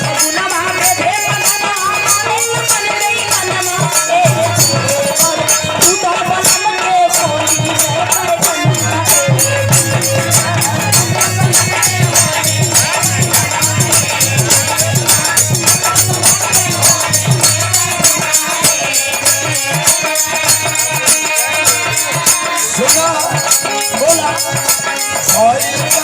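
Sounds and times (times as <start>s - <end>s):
jingling rattling percussion: 0.0s - 26.0s.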